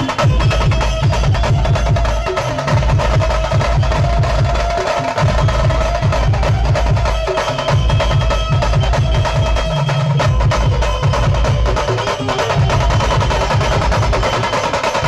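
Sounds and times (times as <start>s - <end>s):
fast loud drum beat: 0.0s - 15.0s.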